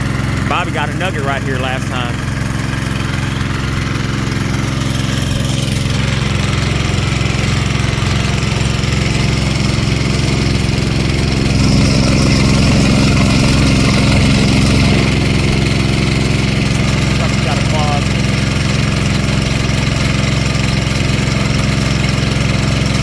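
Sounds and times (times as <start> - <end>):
small gas engine running: 0.0 - 23.0.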